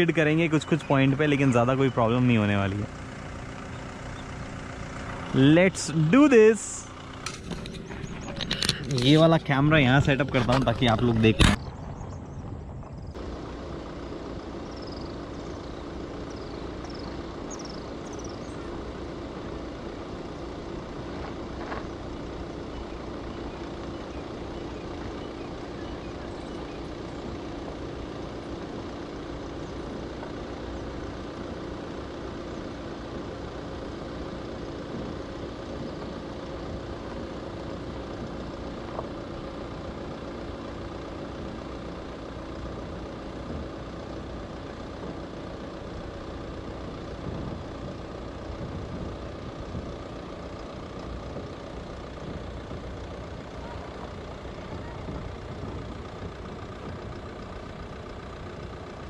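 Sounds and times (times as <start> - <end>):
engine rumbling at low revs: 0.0 - 59.0.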